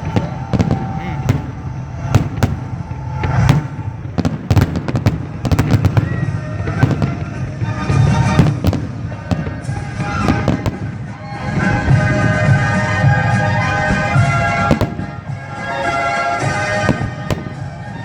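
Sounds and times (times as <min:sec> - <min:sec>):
deep fireworks booms: 0:00.0 - 0:18.0
fireworks bangs and crackles: 0:00.0 - 0:18.0
steady tones: 0:00.0 - 0:18.0.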